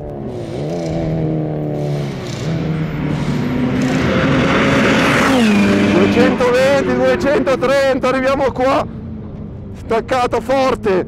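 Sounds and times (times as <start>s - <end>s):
sports car engine accelerating: 0.0s - 9.8s.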